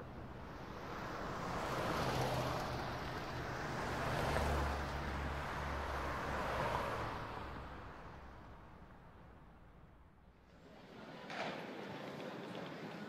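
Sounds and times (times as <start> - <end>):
passing motor vehicles: 0.0 - 13.0.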